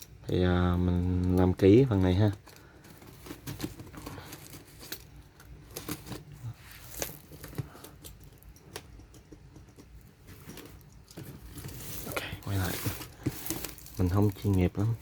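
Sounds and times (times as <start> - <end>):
cardboard packaging being handled: 1.1 - 8.9, 10.1 - 15.0.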